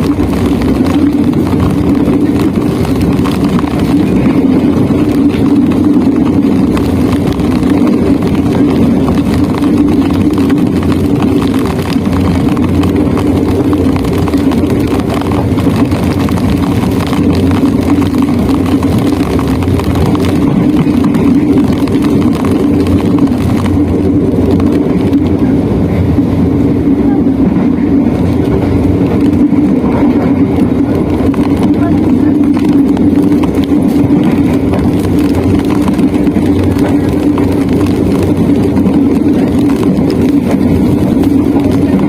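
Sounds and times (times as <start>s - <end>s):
train rumbling inside carriage: 0.0s - 42.0s.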